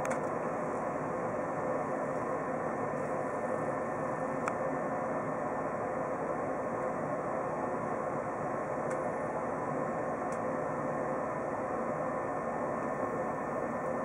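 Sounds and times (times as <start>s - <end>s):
train cabin hum and hiss: 0.0s - 14.0s.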